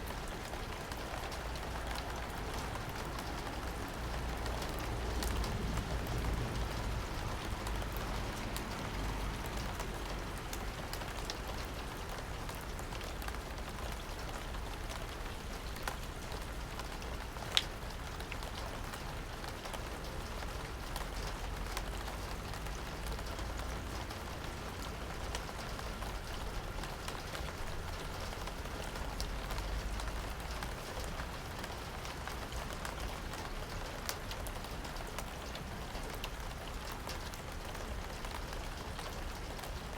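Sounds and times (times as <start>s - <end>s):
raindrops ticking on hard surface: 0.0s - 39.9s
steady rain: 0.0s - 39.9s.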